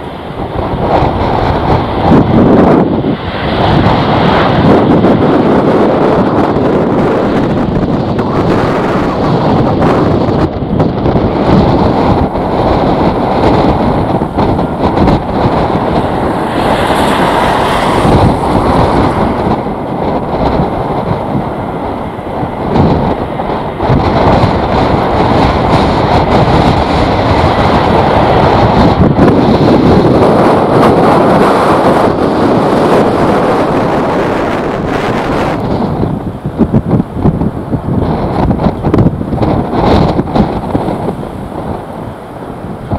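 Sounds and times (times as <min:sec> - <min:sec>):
gusty wind buffeting microphone: 0:00.0 - 0:42.9.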